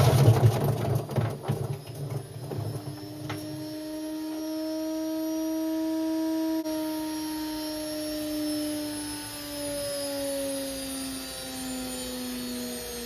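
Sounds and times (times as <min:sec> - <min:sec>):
washing machine spinning drone: 0:00.0 - 0:13.0.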